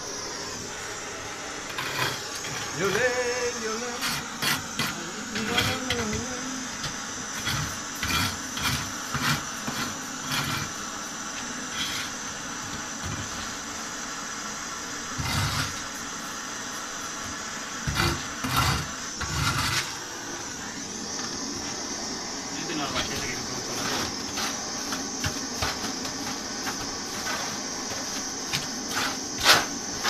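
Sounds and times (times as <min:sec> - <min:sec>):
blowtorch hissing: 0:00.0 - 0:30.0.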